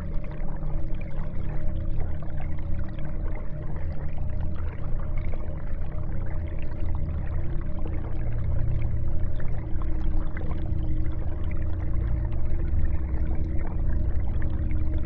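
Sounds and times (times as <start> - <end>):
aquarium bubbles gurgling: 0.0 - 15.0.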